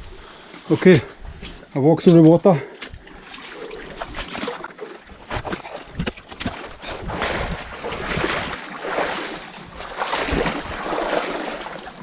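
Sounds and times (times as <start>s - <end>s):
water sloshing around wading legs: 0.1s - 12.0s.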